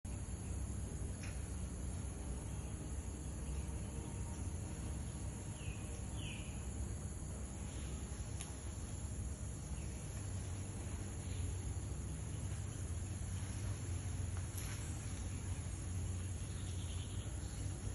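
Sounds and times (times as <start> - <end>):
insect chirring: 0.1 - 17.9.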